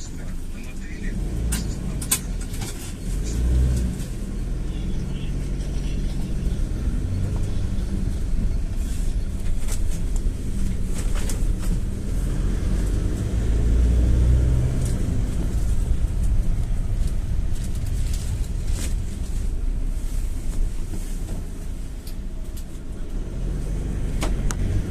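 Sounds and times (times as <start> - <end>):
minibus engine and tyres rumbling: 0.0 - 24.9.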